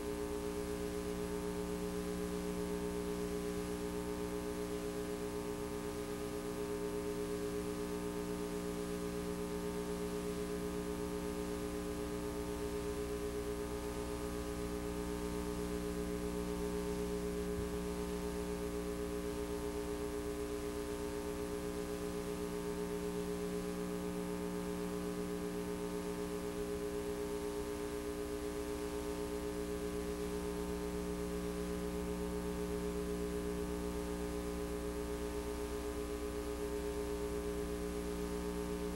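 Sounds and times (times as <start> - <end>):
electrical hum and buzz: 0.0 - 38.9.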